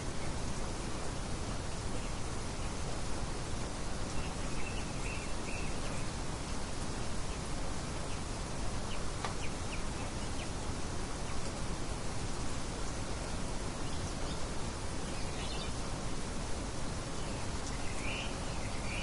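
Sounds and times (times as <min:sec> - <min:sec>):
faint bird chirps: 0:00.0 - 0:11.6, 0:12.2 - 0:19.0.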